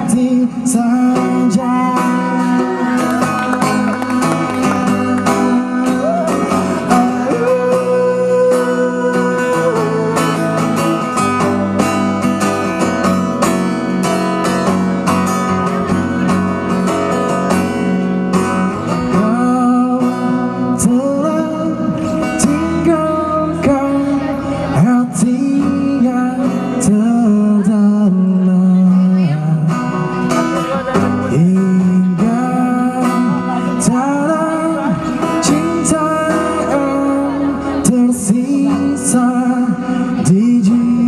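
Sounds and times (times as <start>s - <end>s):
man singing: 0.0s - 12.6s, 18.8s - 41.0s
strummed acoustic guitar: 0.0s - 41.0s.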